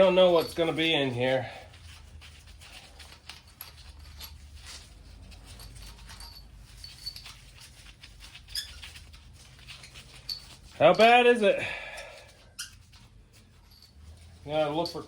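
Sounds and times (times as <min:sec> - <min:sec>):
tools clicking and scraping: 0:01.7 - 0:15.0.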